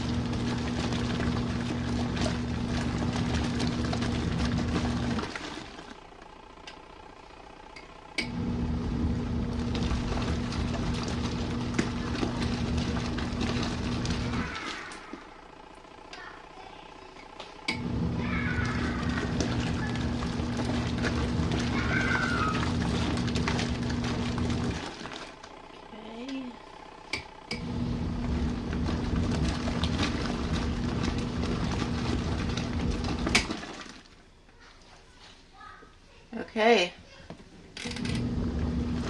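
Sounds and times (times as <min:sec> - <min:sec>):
washing machine motor humming: 0:00.0 - 0:35.1, 0:36.5 - 0:39.0.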